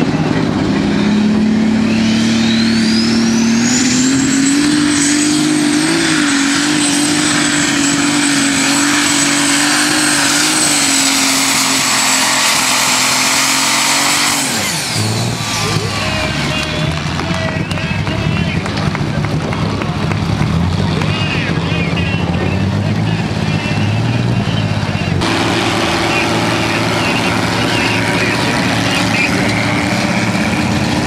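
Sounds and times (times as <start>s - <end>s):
tractor engine at full throttle: 0.0s - 31.0s
turbocharger whine: 0.0s - 31.0s.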